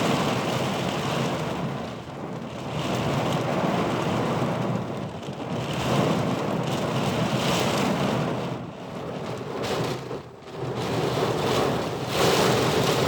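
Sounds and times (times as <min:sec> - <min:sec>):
gusting wind: 0:00.0 - 0:13.0
heavy rain pouring: 0:00.0 - 0:13.0.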